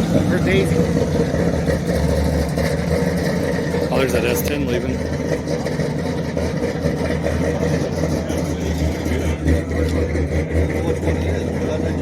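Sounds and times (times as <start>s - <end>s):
pickup engine rumbling: 0.0s - 12.0s.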